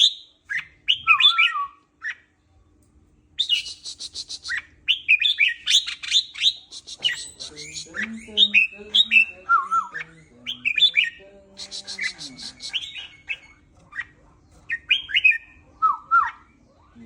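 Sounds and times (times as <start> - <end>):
bird singing whistled phrases: 0.0 - 2.2, 3.4 - 13.6, 14.7 - 16.6
bird chirps: 0.0 - 2.3, 3.4 - 17.0.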